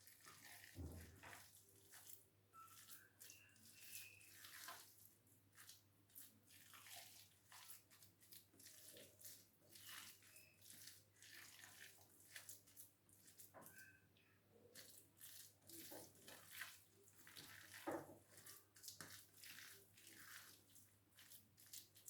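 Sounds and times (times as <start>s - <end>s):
dough squelching in a bowl: 0.0s - 22.0s.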